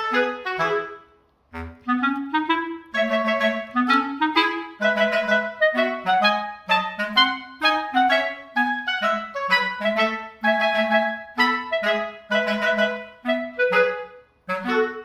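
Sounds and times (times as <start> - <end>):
woodwind melody: 0.0 - 15.0.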